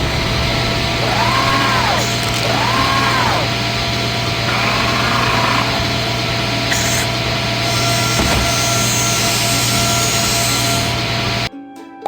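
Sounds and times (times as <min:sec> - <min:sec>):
power saw cutting wood: 0:00.0 - 0:11.5.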